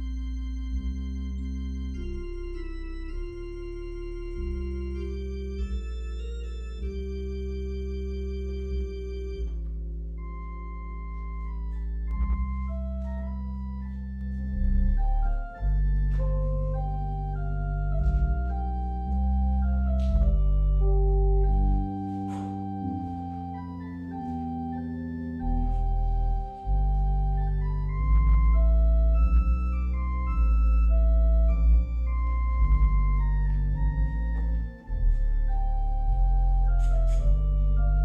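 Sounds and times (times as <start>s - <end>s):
organ playing sustained chords: 0.0s - 38.0s.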